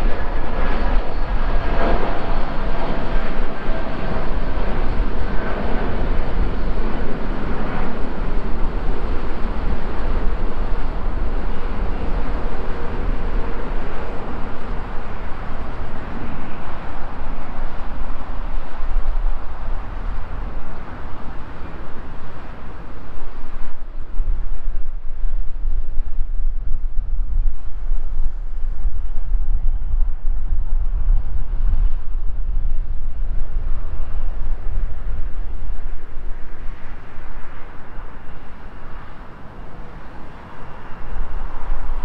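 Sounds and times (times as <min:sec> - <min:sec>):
faint engine whine: 0:00.0 - 0:42.0
jet engines roaring: 0:00.0 - 0:42.0
wind rumble on microphone: 0:00.0 - 0:42.0.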